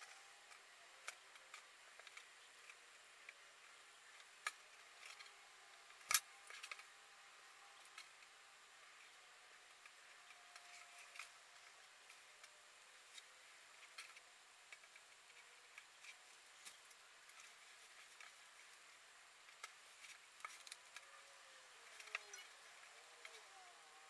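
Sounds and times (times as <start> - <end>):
faint clicks and rustles: 0.0 - 24.0.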